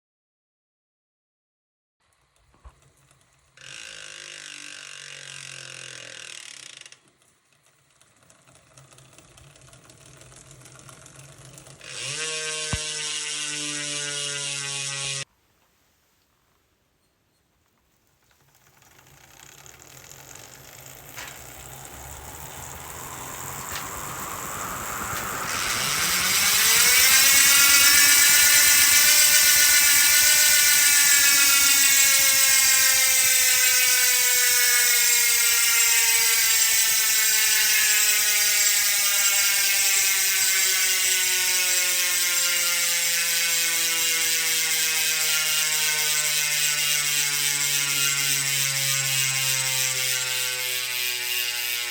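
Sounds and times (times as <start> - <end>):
bicycle hub ratchet buzzing: 2.1 - 15.3, 18.4 - 51.9.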